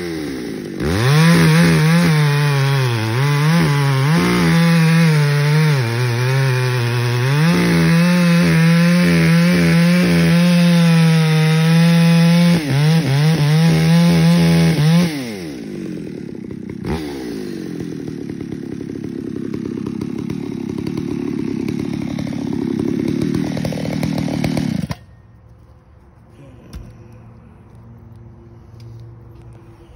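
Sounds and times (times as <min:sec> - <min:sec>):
chainsaw cutting log: 0:00.0 - 0:25.2
chainsaw idling: 0:00.0 - 0:25.4.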